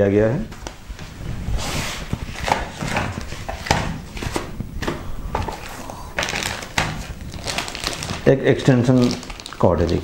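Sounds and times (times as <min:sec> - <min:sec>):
foam and plastic wrap rustling: 0:01.2 - 0:10.0.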